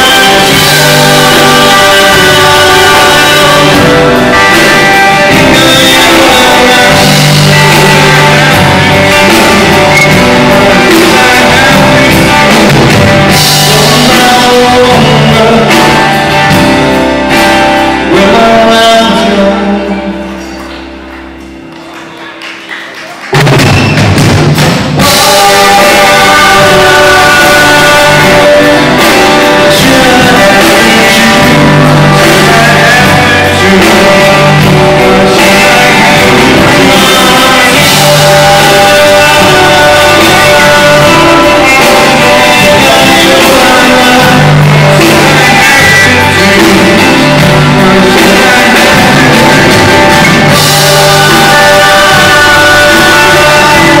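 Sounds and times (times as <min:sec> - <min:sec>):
lead vocal singing: 0:00.0 - 0:20.8, 0:24.6 - 0:54.0
live rock band playing: 0:00.0 - 0:54.0.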